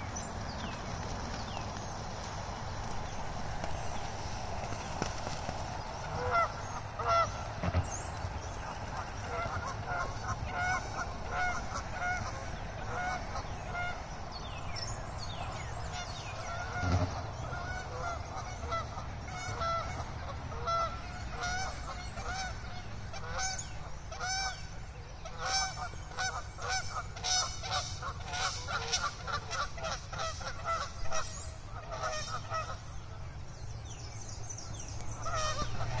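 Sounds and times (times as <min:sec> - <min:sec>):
geese honking: 0:04.2 - 0:33.4, 0:34.8 - 0:36.0.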